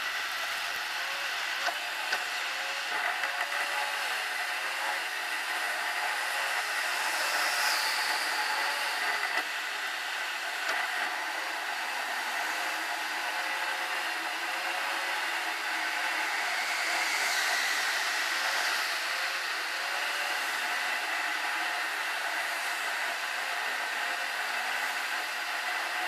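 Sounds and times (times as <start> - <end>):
car road and tyre noise: 0.0 - 26.0.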